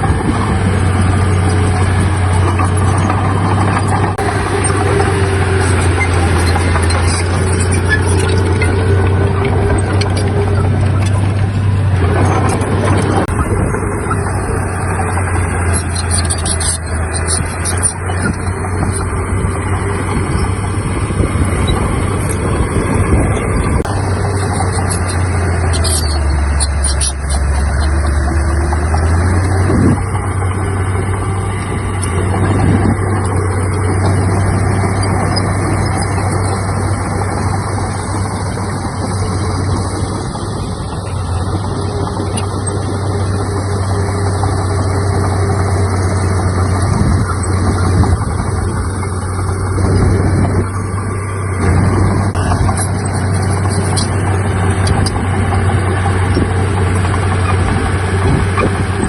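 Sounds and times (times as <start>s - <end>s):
heavy diesel machinery engine drone: 0.0s - 59.0s.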